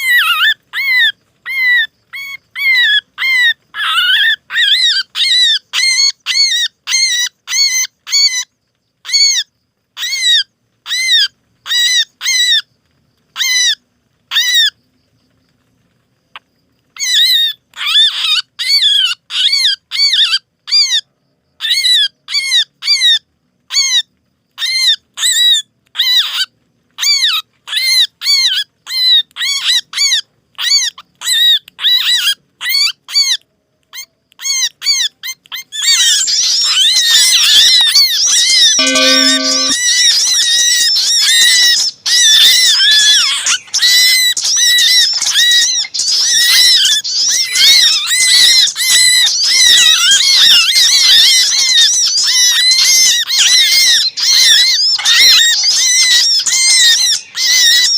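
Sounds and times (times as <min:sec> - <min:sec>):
small bird distress calls: 0:00.0 - 0:15.4, 0:16.4 - 0:57.9.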